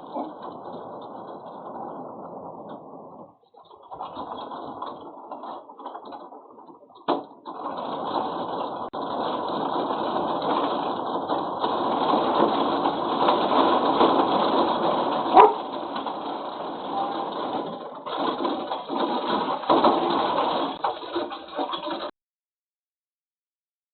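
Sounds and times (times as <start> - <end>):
hailstones pelting down: 0.0 - 22.1.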